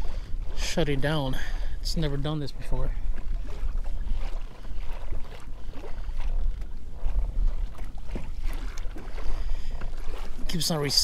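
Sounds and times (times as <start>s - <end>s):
small waves slapping hull: 0.0s - 11.0s
wind rumbling on microphone: 0.0s - 11.0s.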